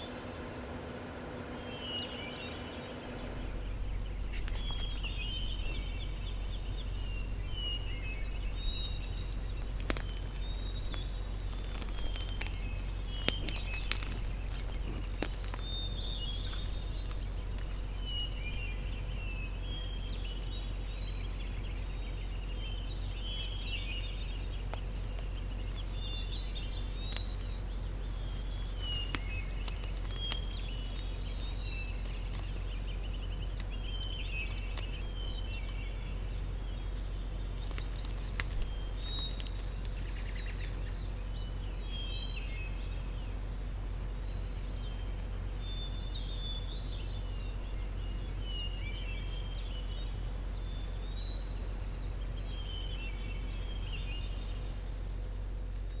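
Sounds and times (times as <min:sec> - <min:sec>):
birds singing and chirping: 0:00.0 - 0:56.0
steady low rumble: 0:00.0 - 0:56.0.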